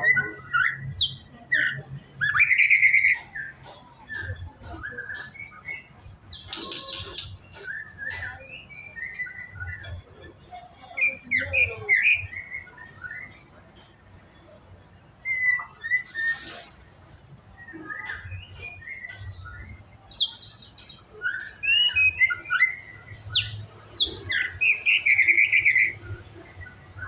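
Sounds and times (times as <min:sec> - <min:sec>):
bird singing: 0:00.0 - 0:27.0.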